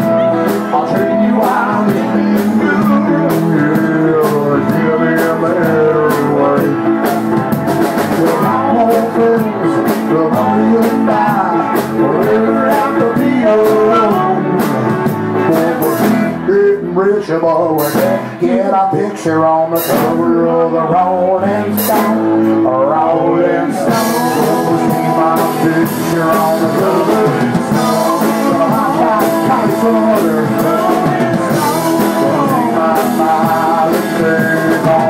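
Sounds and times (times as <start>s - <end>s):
rock band playing: 0.0s - 35.0s.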